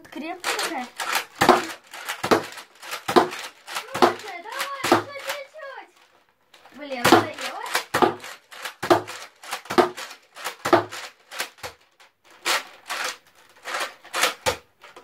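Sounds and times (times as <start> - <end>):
toy blaster plastic clacks: 0.4 - 15.0.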